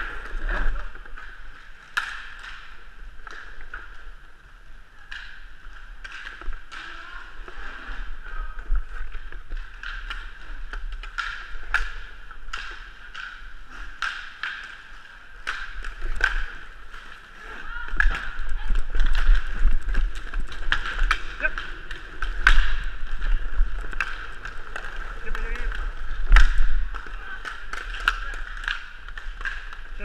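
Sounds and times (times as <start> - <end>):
hockey sticks and puck clacking: 0.0 - 30.0.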